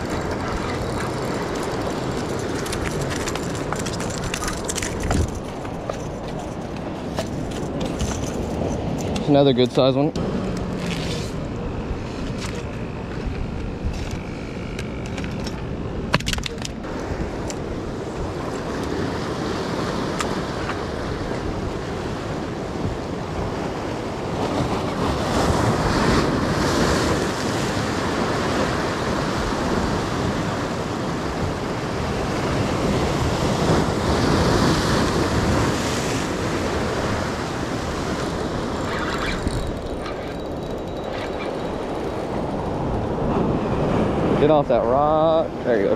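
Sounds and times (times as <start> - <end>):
wind on microphone: 0.0 - 9.3, 10.6 - 45.5.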